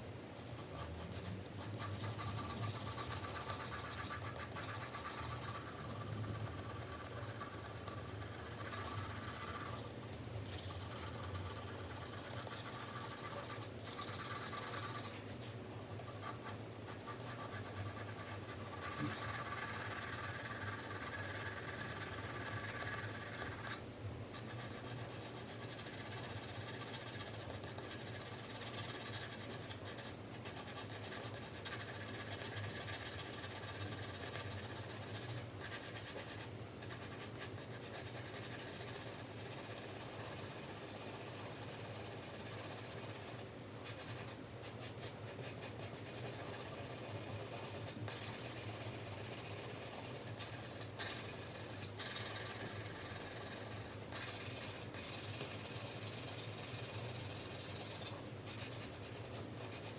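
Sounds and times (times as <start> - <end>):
pencil scratching on paper: 0.4 - 15.2, 15.9 - 23.8, 24.4 - 59.9.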